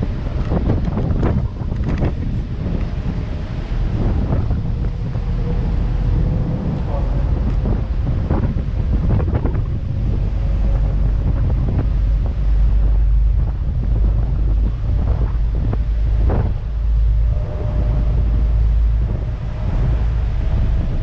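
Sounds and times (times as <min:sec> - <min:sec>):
faint boat engine hum: 0:00.0 - 0:21.0
sea rushing against hull: 0:00.0 - 0:21.0
strong wind buffeting microphone: 0:00.0 - 0:21.0.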